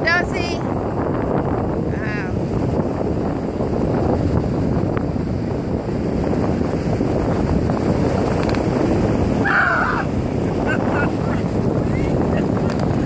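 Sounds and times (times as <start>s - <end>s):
surf washing in shallows: 0.0s - 13.0s
wind buffeting microphone: 0.0s - 13.0s.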